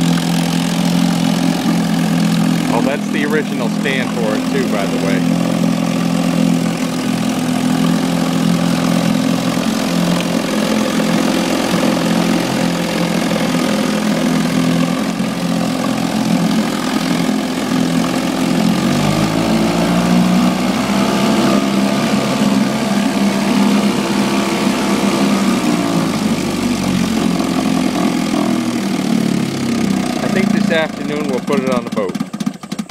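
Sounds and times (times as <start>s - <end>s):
outboard motor running: 0.0s - 32.9s.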